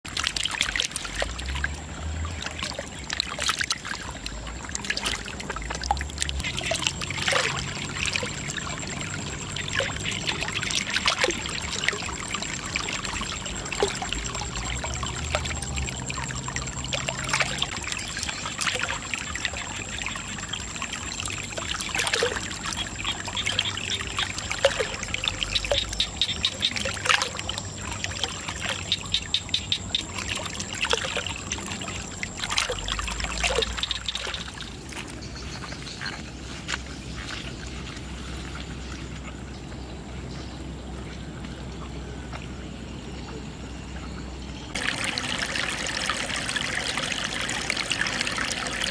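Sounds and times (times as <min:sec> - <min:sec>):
water pouring into pool: 0:00.1 - 0:35.2, 0:44.7 - 0:48.9.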